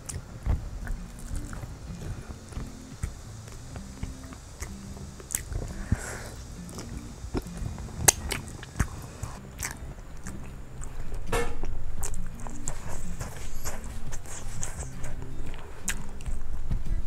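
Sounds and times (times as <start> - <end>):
chewing and biting food: 0.0 - 17.0
sharp mouth clicks: 0.8 - 17.0.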